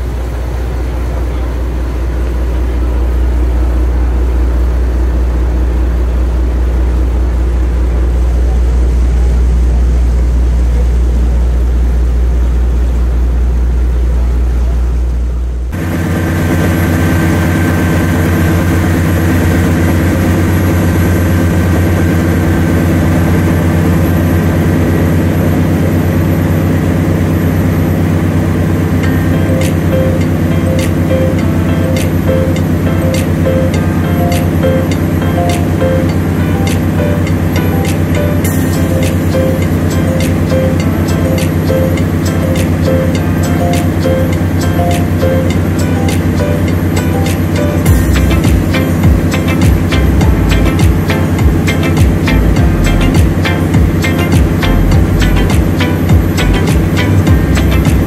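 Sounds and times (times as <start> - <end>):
boat engine drone: 0.0 - 58.0.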